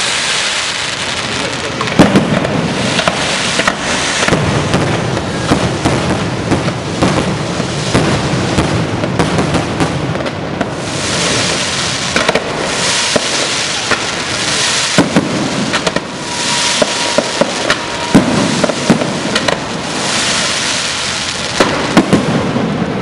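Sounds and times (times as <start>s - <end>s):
fireworks hiss and crackle: 0.0s - 23.0s
fireworks sharp bangs: 0.0s - 23.0s.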